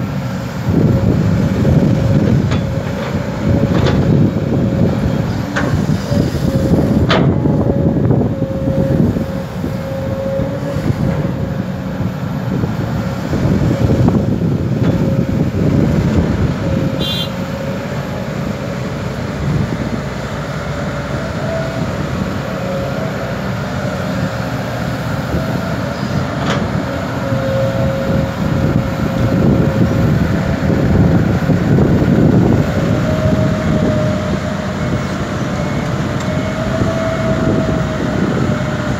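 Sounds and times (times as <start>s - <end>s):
excavator diesel engine: 0.0s - 38.9s.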